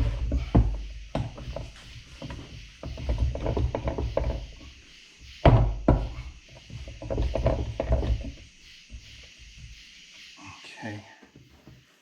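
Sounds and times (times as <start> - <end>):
knocks clunks and rattles: 0.0 - 9.8
loud thuds: 0.0 - 9.8.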